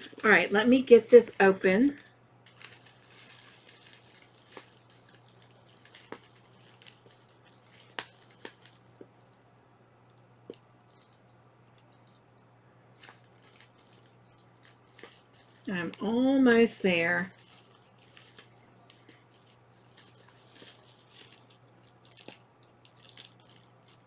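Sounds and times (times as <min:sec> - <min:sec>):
paper packaging rustling: 0:00.0 - 0:08.9, 0:13.0 - 0:24.0.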